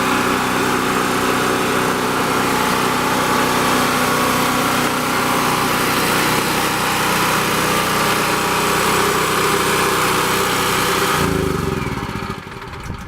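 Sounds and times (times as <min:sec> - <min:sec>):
portable generator engine running: 0:00.0 - 0:13.0.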